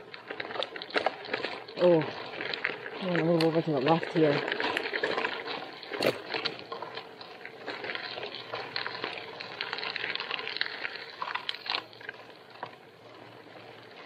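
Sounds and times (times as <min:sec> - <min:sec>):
bicycle tyres crunching on gravel: 0:00.0 - 0:14.0
stones clicking: 0:00.0 - 0:14.0.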